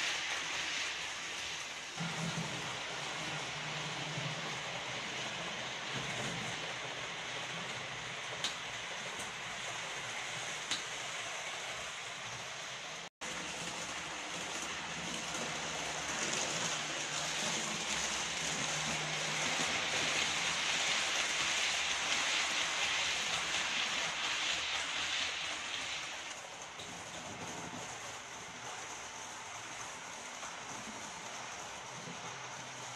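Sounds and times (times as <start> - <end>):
model train wheels rolling on rails: 0.0 - 32.9.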